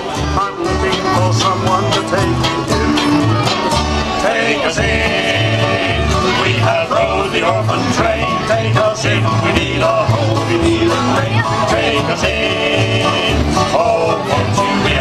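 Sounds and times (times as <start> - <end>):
acoustic guitars: 0.0 - 15.0
banjo: 0.0 - 15.0
upright double bass: 0.0 - 15.0.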